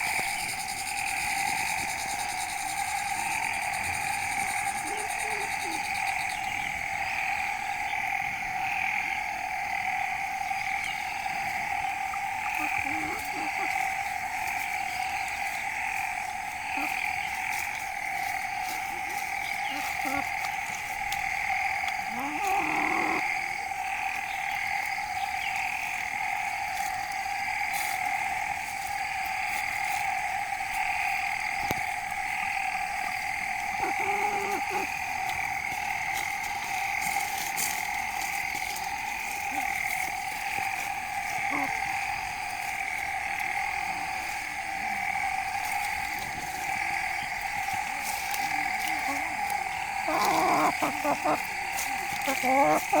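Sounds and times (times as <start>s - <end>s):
chorus of calling frogs: 0.0s - 53.0s.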